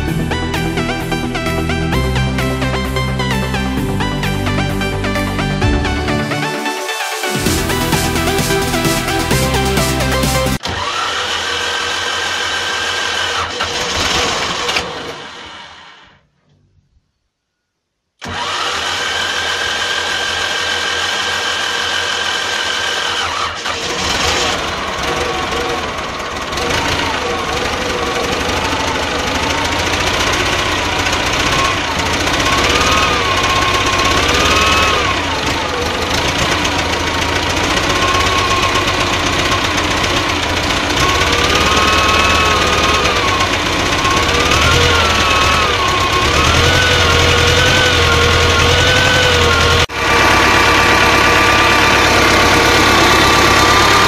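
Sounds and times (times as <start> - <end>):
diesel tractor engine whining: 0.0 - 16.2, 18.2 - 54.0.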